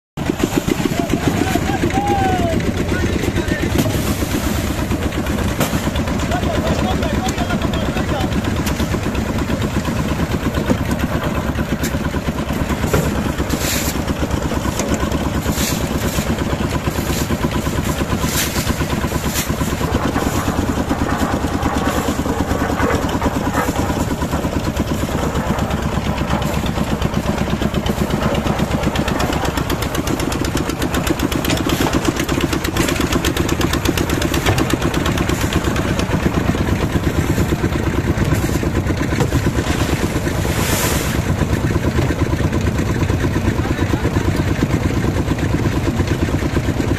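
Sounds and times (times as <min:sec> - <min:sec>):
concrete mixer engine running: 0:00.2 - 0:46.9
gravel rattling into mixer skip: 0:00.2 - 0:46.9.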